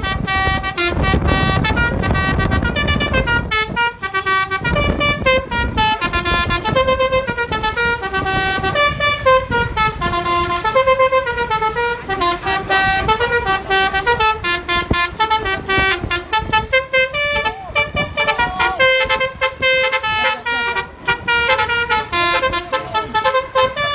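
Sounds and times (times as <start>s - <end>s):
bus horn playing melody: 0.0s - 23.9s
low road and engine rumble: 0.0s - 23.9s.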